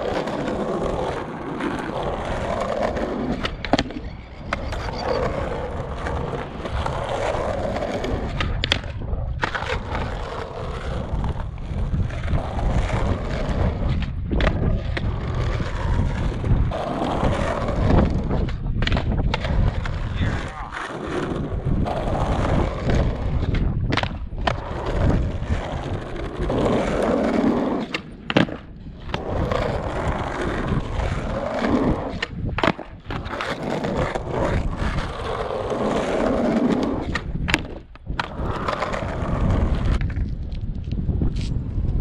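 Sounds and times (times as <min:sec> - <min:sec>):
skateboard knocking on concrete: 0:00.0 - 0:42.0
skateboard wheels rolling on concrete: 0:00.0 - 0:42.0.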